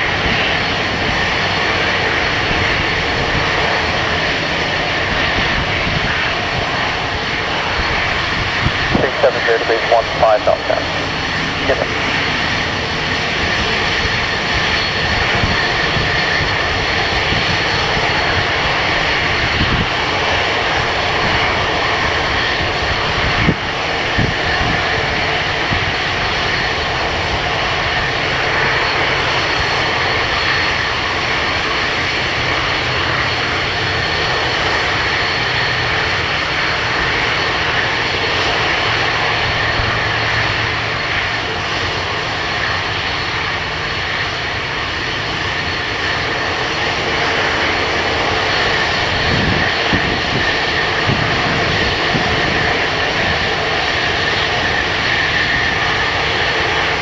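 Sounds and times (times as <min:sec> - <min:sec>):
wind rumble on microphone: 0:00.0 - 0:42.4, 0:43.3 - 0:57.0
airliner engines rushing: 0:00.0 - 0:57.0.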